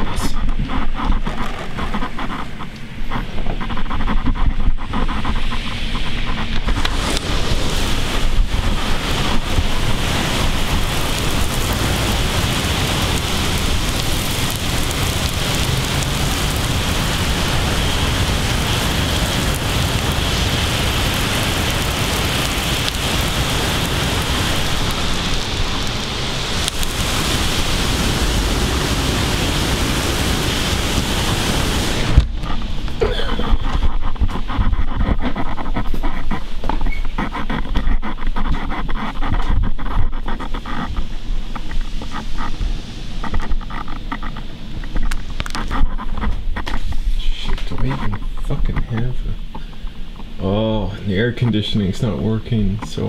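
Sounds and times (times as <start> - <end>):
heavy rain rushing: 0.0 - 53.0.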